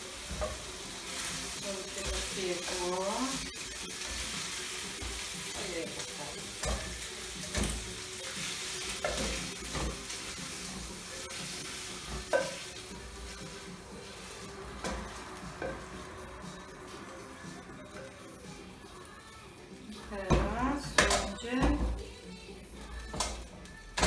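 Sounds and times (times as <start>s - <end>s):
meat sizzling in frying pan: 0.0s - 24.0s.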